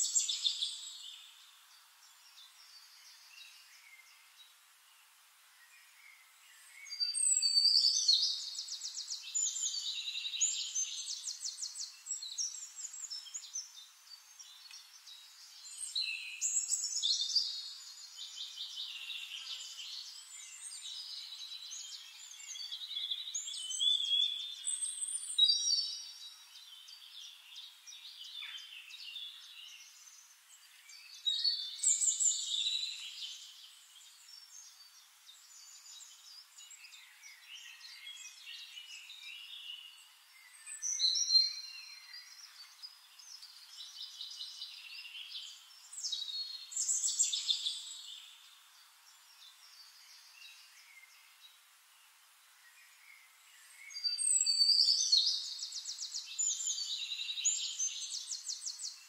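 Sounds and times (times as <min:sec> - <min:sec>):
small birds singing: 0:00.0 - 0:59.0.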